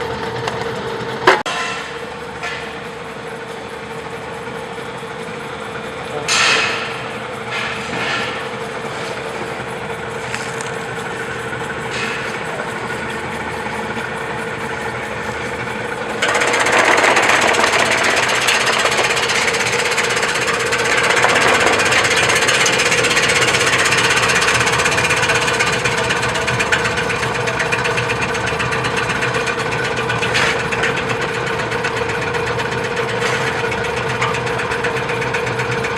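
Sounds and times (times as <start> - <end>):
slicing machine motor hum: 2.1 - 35.9
produce rattling through blades: 2.4 - 35.9.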